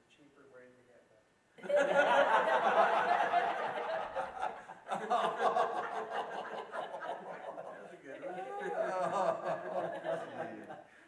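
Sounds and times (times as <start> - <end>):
adults laughing: 1.6 - 10.9.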